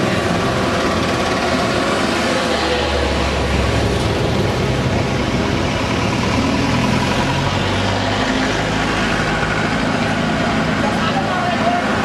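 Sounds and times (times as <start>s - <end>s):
road and traffic noise: 0.0s - 12.0s
vehicle engine running: 0.0s - 12.0s.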